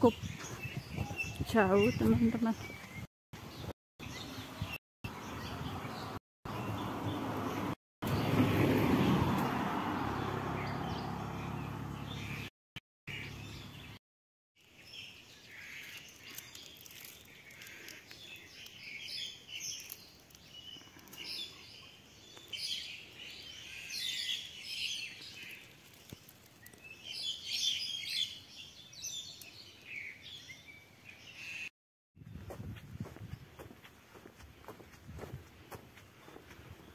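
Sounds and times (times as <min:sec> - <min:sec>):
birds chirping: 0:00.0 - 0:12.5, 0:13.1 - 0:14.0, 0:14.6 - 0:36.9.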